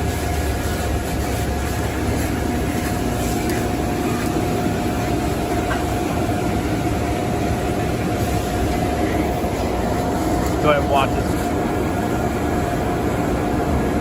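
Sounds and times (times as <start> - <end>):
car wash machinery rumbling: 0.0 - 14.0
mid-pitched mechanical whine: 0.0 - 14.0.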